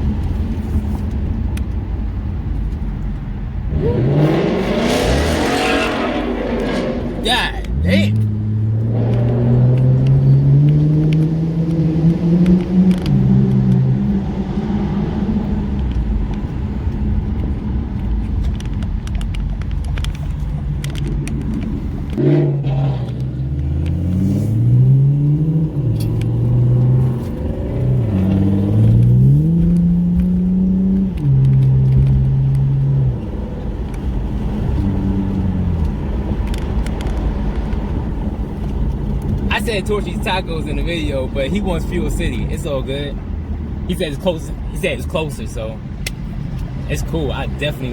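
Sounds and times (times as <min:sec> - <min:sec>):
car engine revving: 0:03.6 - 0:47.9.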